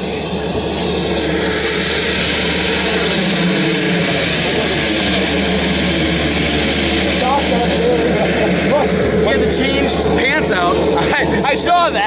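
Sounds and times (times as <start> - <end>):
turboprop plane engine and propeller: 0.0 - 12.0.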